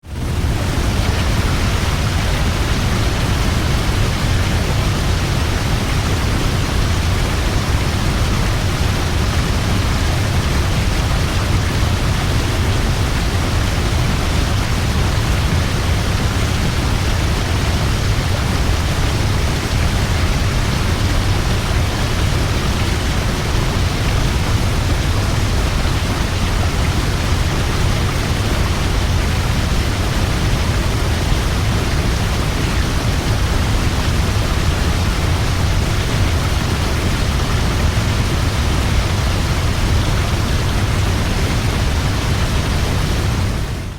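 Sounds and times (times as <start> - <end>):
heavy waterfall rushing: 0.0 - 43.9.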